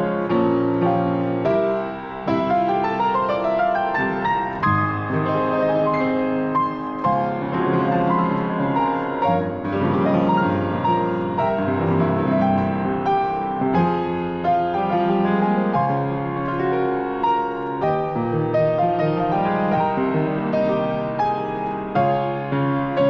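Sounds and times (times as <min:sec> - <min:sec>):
slow piano piece: 0:00.0 - 0:23.0.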